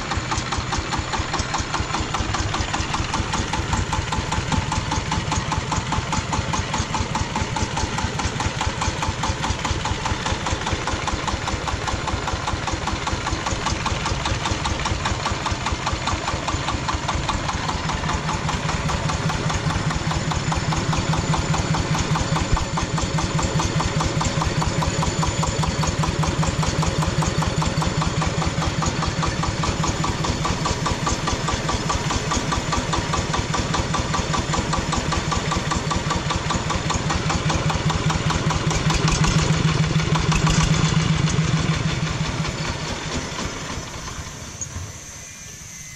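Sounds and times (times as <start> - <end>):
tractor engine idling: 0.0 - 45.7.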